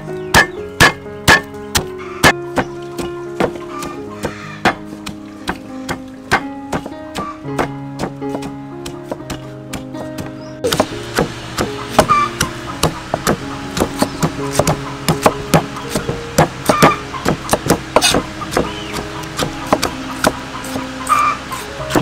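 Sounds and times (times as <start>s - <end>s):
soft background music: 0.0s - 22.0s
cleaver chopping on wooden block: 0.3s - 22.0s.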